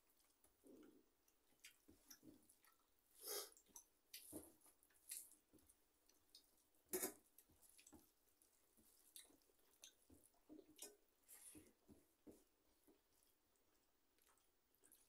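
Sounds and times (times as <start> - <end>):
chewing: 0.1 - 15.0
fingers squishing food on steel plates: 0.1 - 15.0.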